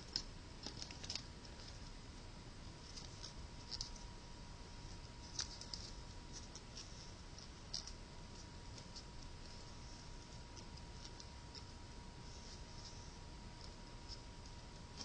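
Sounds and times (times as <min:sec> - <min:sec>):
paper crinkling: 0:00.0 - 0:01.9, 0:02.8 - 0:04.2, 0:04.8 - 0:15.0.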